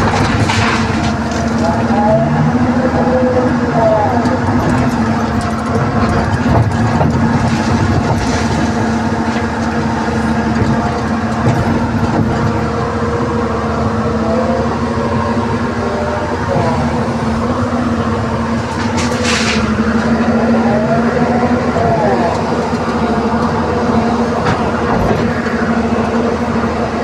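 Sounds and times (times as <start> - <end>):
excavator engine and hydraulics: 0.0 - 27.0.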